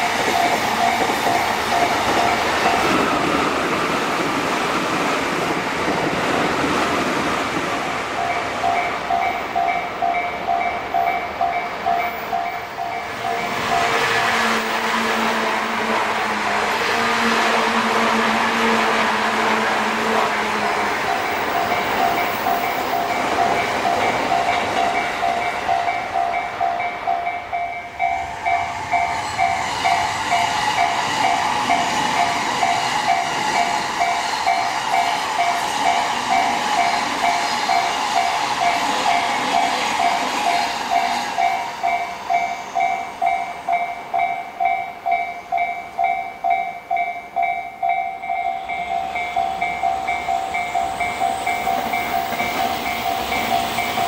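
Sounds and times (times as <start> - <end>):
level-crossing alarm ringing: 0.0 - 3.4, 8.1 - 14.7, 20.4 - 54.0
train passing: 0.0 - 54.0.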